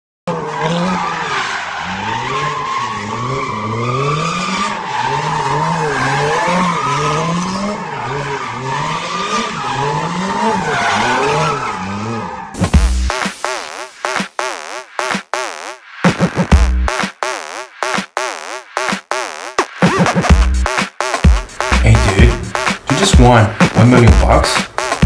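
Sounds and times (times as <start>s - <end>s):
car engine revving: 0.3s - 25.0s.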